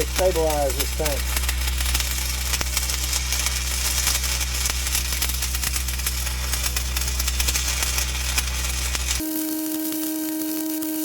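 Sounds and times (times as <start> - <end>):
engine droning: 0.0 - 9.3
welding arc crackling: 0.0 - 11.0.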